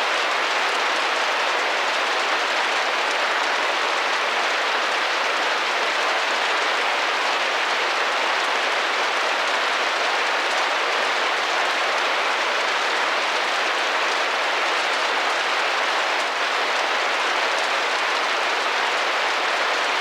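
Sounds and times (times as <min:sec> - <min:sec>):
rain pattering on a window: 0:00.0 - 0:20.0.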